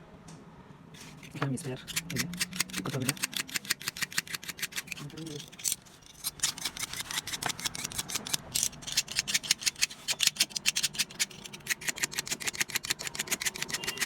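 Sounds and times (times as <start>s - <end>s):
ratchet clicking rapidly: 1.0s - 14.0s.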